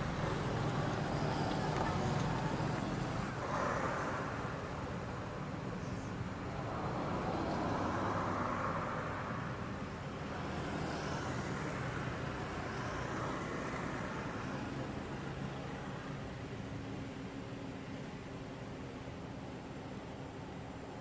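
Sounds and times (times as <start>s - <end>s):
distant road traffic: 0.0s - 21.0s
low engine hum: 0.0s - 21.0s.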